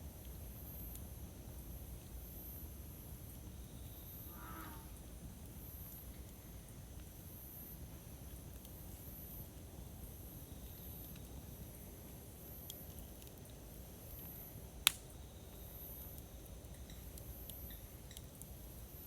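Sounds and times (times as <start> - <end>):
campfire flames rustling: 0.0 - 4.2, 5.0 - 19.0
fire crackles: 0.0 - 4.2, 5.0 - 19.0.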